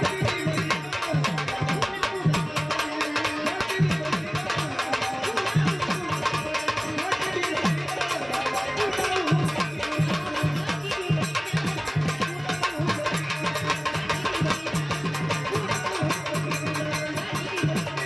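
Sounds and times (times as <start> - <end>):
quick percussion beat: 0.0 - 18.0.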